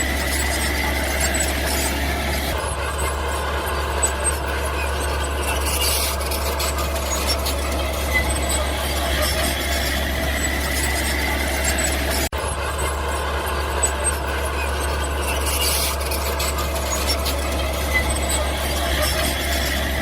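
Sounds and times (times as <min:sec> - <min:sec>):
mini bulldozer engine running: 0:00.0 - 0:20.0
squealing whine: 0:00.0 - 0:20.0.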